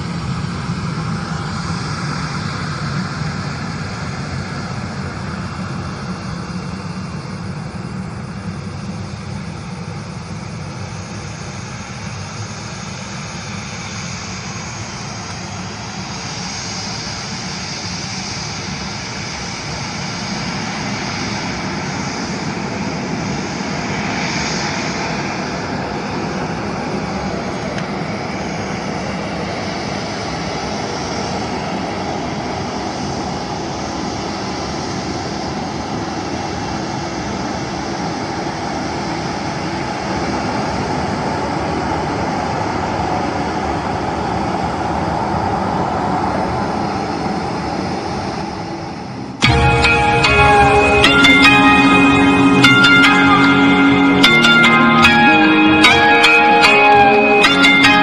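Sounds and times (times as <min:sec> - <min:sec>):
airliner engines rushing and whining: 0:00.0 - 0:58.0.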